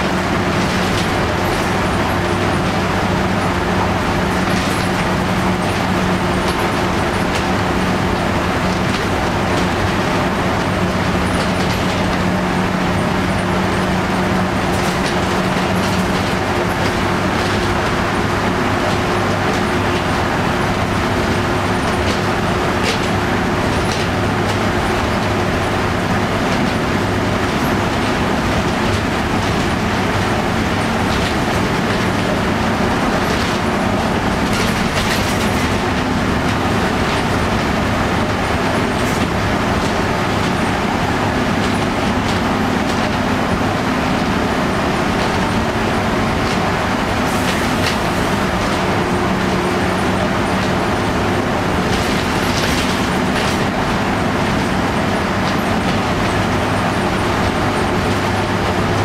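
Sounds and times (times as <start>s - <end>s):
bus diesel engine droning: 0.0s - 59.0s
road noise: 0.0s - 59.0s.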